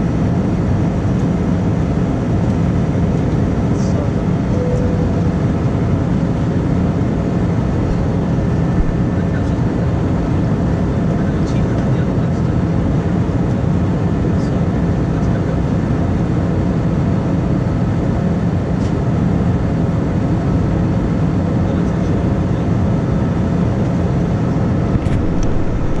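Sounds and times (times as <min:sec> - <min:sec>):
jet engine and airflow drone: 0:00.0 - 0:26.0.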